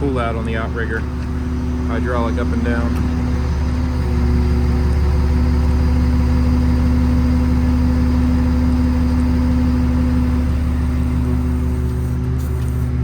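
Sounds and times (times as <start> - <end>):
diesel engine idling: 0.0 - 13.0
hydraulic pump whine: 0.0 - 13.0.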